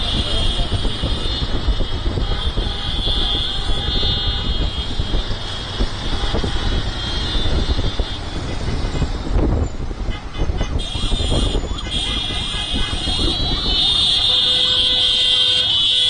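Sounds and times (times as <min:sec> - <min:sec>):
motorcycle engines droning: 0:00.0 - 0:16.0.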